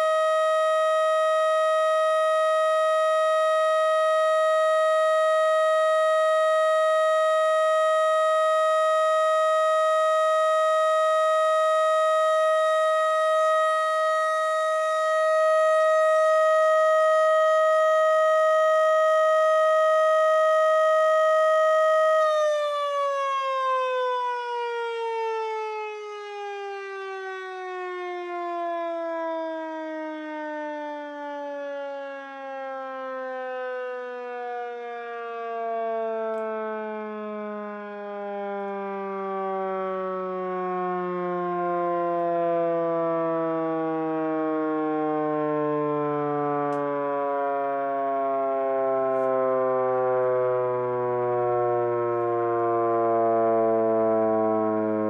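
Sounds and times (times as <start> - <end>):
siren winding down: 0.0 - 55.0.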